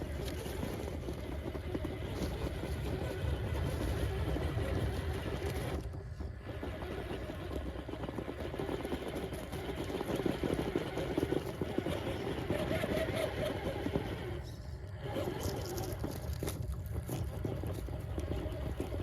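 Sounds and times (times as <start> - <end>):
toy car electric motor running: 0.0 - 19.0.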